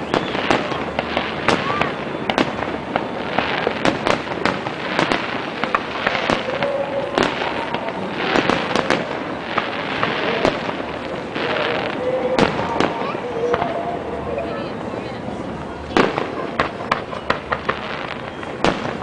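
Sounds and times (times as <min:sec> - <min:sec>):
continuous crackling hiss: 0:00.0 - 0:19.0.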